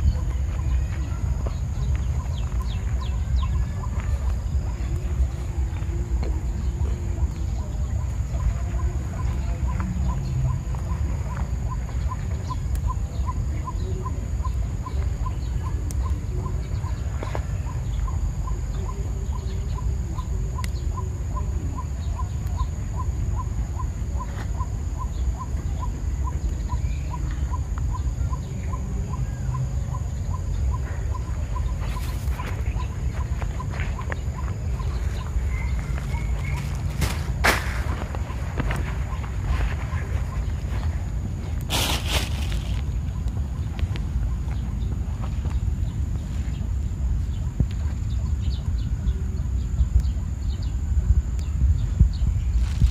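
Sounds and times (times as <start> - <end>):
steady low rumble: 0.0 - 52.9.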